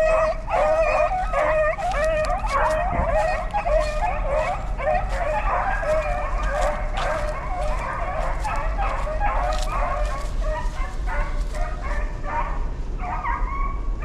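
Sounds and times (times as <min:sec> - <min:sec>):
hounds yelping and barking: 0:00.0 - 0:14.0.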